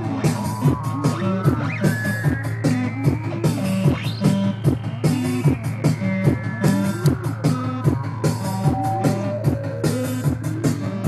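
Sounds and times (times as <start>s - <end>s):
electro-punk song: 0.0s - 11.0s.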